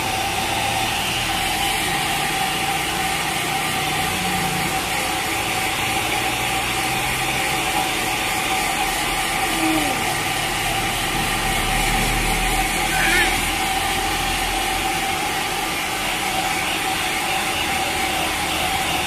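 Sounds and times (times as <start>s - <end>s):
constant whine: 0.0s - 19.0s
steady mechanical hum: 0.0s - 19.0s.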